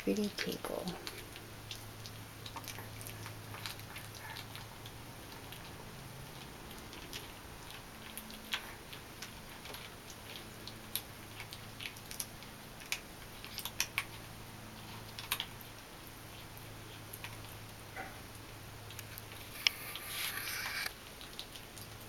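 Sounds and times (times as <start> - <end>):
kittens crunching dry food: 0.0 - 22.0.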